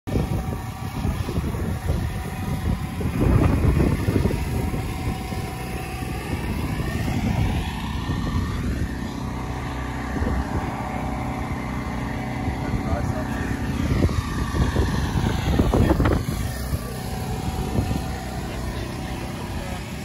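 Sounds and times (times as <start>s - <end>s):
faint rising whine: 0.1s - 20.0s
vehicle engine running: 0.1s - 20.0s.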